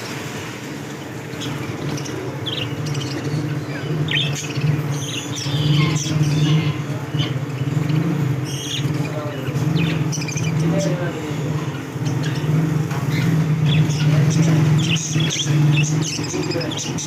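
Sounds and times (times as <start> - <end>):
caged birds chirping and squawking: 0.0 - 17.0.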